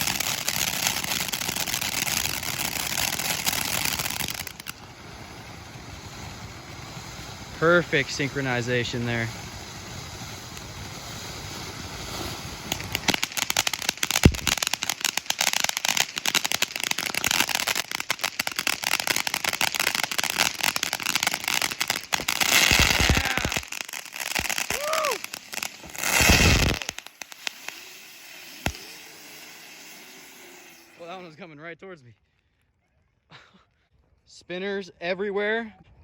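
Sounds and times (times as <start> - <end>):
firework whistle: 0.0 - 31.3
firework crackling and popping: 0.0 - 31.6
spinning fireworks hissing: 0.0 - 31.6.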